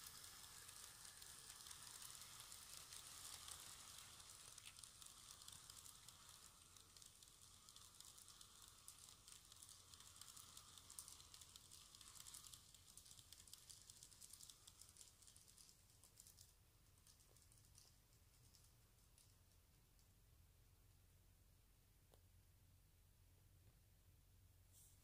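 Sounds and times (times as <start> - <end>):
model train wheels clicking: 0.0 - 20.2.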